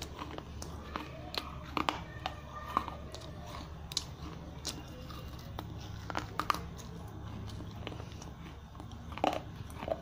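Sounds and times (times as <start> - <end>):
clay cup crunching cracks: 0.0 - 10.0.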